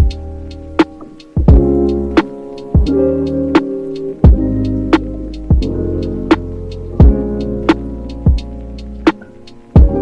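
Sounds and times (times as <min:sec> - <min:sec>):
background music with deep thumps: 0:00.0 - 0:10.0.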